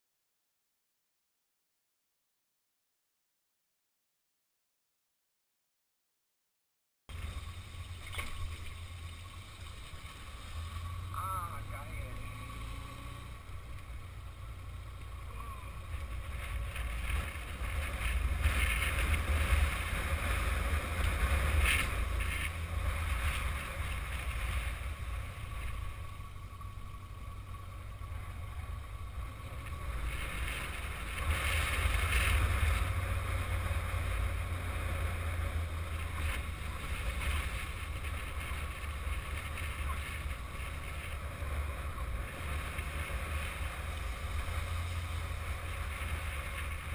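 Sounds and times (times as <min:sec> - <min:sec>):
motorcycle engine: 0:07.1 - 0:46.9
road noise: 0:07.1 - 0:46.9.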